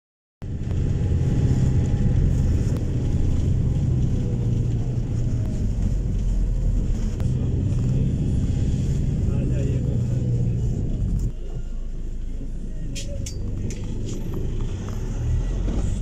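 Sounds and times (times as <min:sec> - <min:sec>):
vehicle engine and tyre rumble: 0:00.4 - 0:16.0.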